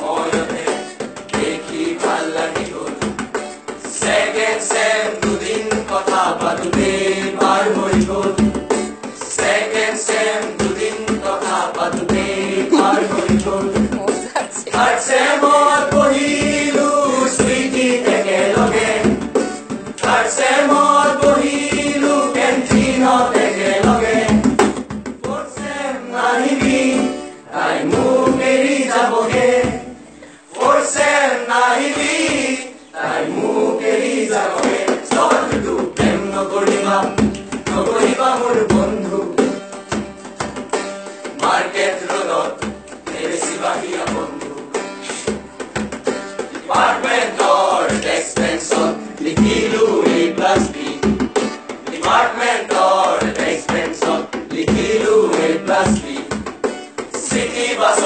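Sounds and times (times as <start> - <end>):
men singing in chorus: 0.0 - 3.2, 3.8 - 19.3, 20.0 - 39.6, 41.2 - 45.3, 46.5 - 56.4, 57.1 - 58.0
hand drum beating: 0.2 - 25.8, 29.3 - 30.0, 34.6 - 41.6, 42.6 - 58.0.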